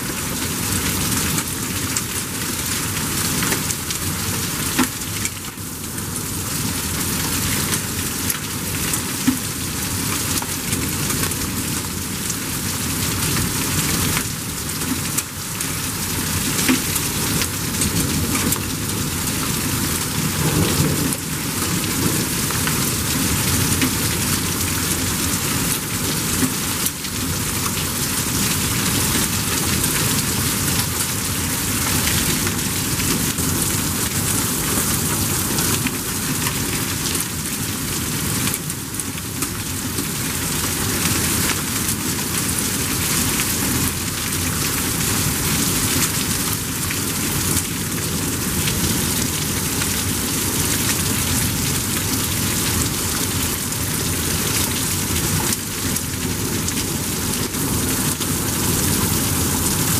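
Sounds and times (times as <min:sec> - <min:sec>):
torrential rain: 0:00.0 - 0:59.9.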